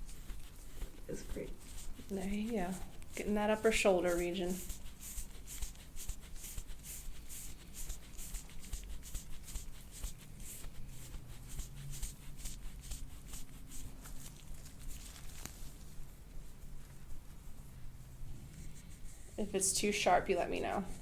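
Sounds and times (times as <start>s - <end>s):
massage rubbing strokes: 0.0s - 21.0s.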